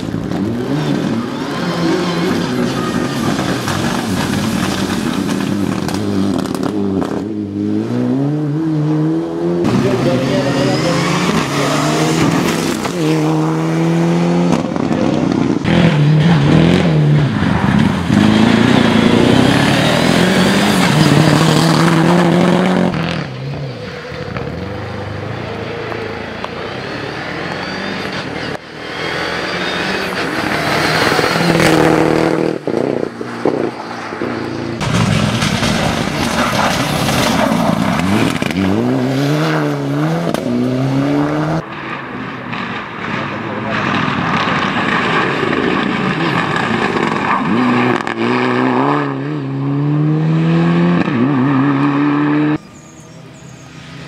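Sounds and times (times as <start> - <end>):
rally car engine revving hard: 0.0 - 23.6, 27.1 - 41.6, 43.7 - 53.0.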